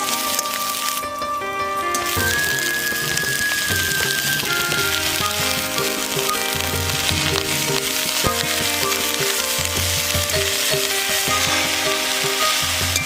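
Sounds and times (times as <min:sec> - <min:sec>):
background music: 0:00.0 - 0:13.0
food sizzling in a pan: 0:02.0 - 0:13.0.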